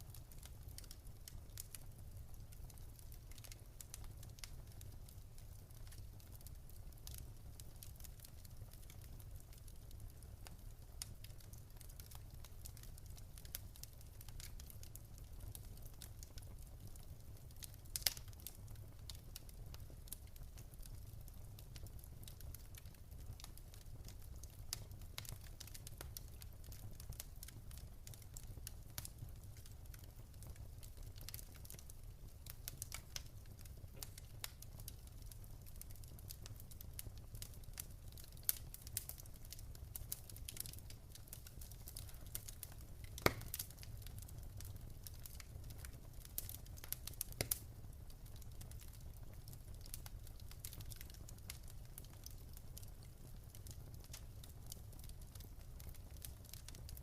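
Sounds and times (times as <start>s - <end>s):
wood fire crackling: 0.0s - 57.0s
louder fire snaps: 0.1s - 57.0s.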